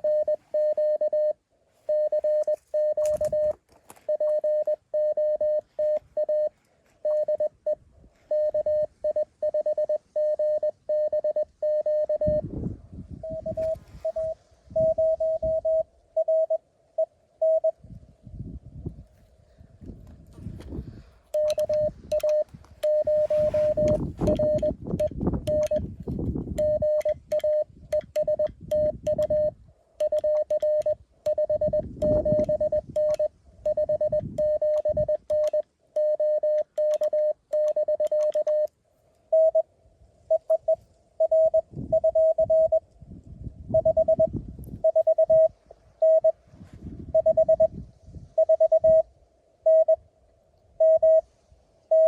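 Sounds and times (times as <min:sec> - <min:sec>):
morse code beeps: 0:00.0 - 0:12.5, 0:13.2 - 0:17.8, 0:21.3 - 0:25.9, 0:26.6 - 0:38.7, 0:39.3 - 0:39.7, 0:40.3 - 0:42.8, 0:43.7 - 0:46.4, 0:47.1 - 0:47.8, 0:48.4 - 0:50.0, 0:50.8 - 0:51.3.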